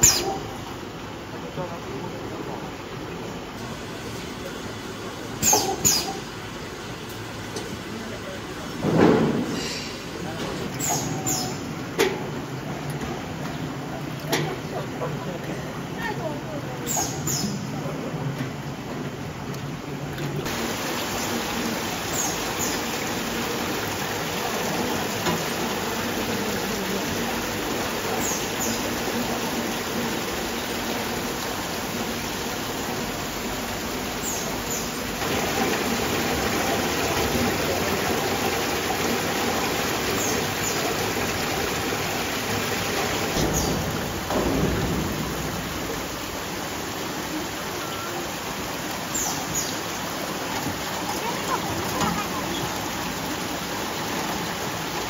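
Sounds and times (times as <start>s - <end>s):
water pouring and splashing: 2.7s - 55.0s.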